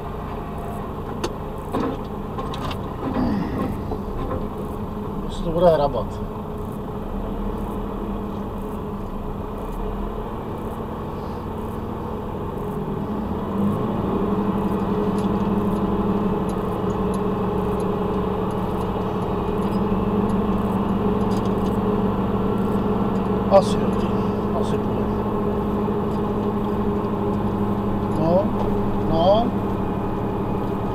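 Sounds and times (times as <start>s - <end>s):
truck diesel engine under load: 0.0s - 30.9s.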